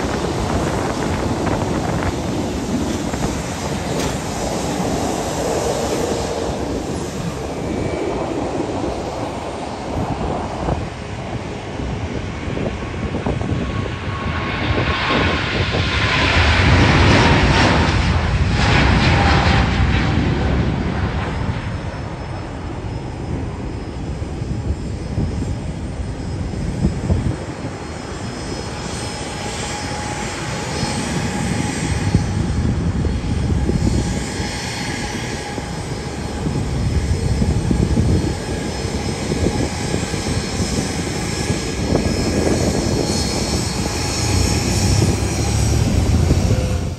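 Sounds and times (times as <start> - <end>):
jet airliner rumble at takeoff: 0.0 - 46.9
jet fan whine: 0.0 - 46.9.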